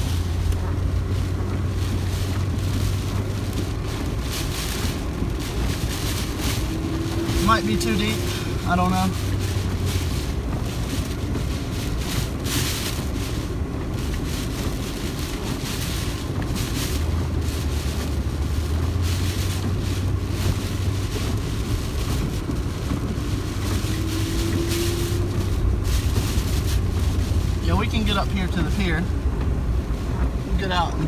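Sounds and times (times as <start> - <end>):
car engine and road rumble: 0.0 - 31.0
wind gusts buffeting: 0.0 - 31.0.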